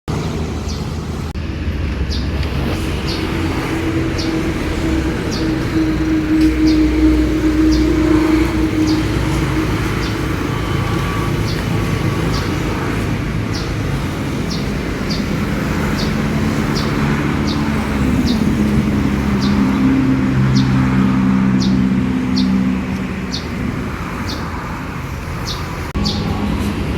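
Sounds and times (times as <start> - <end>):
motor humming: 0.2 - 24.2.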